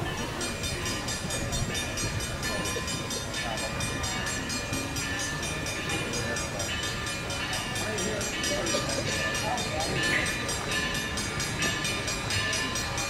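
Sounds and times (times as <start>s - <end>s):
crossing bell ringing: 0.0s - 13.0s.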